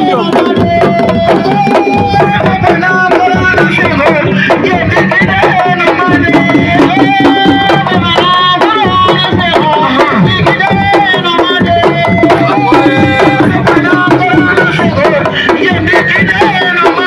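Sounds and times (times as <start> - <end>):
hand drums beating fast rhythm: 0.0 - 17.0
melody over drums: 0.0 - 17.0.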